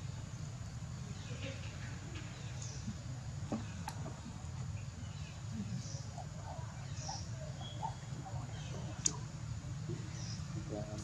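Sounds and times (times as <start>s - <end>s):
faint bird chirps: 1.0s - 11.0s.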